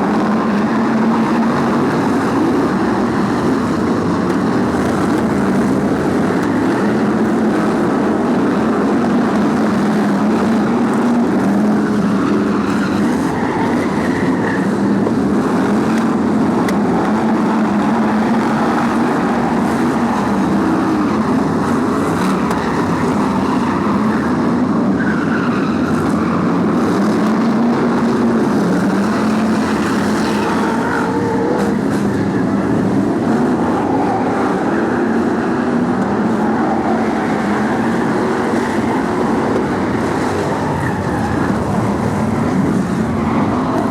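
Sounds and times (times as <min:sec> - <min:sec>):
racing car engines droning: 0:00.0 - 0:43.9.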